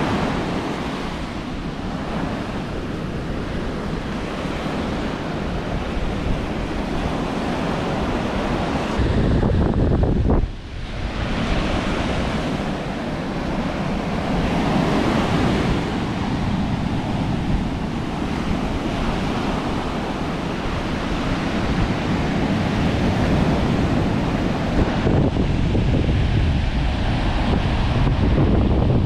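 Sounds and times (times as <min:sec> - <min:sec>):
sea surf breaking on beach: 0:00.0 - 0:29.0
wind buffeting microphone: 0:00.0 - 0:29.0.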